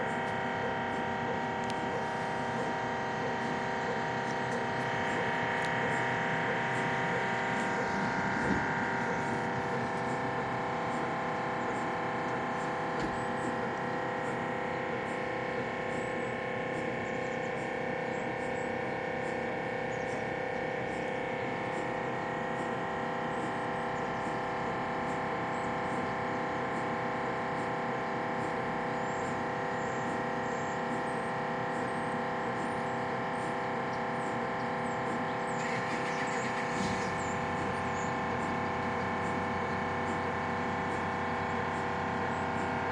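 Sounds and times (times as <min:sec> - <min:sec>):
mri scanner drone: 0:00.0 - 0:42.9.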